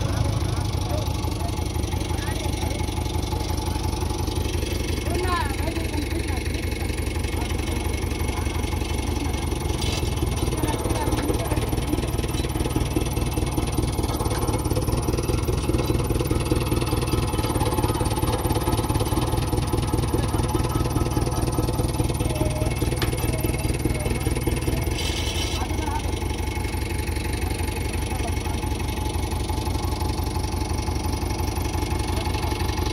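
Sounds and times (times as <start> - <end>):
diesel engine running steadily: 0.0 - 32.9.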